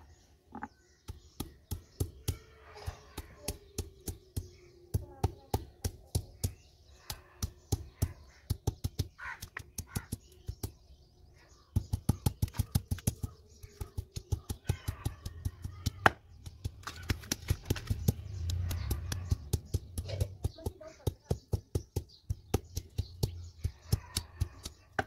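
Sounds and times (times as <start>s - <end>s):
stone pestle pounding on stone: 0.6s - 11.0s, 11.6s - 25.0s.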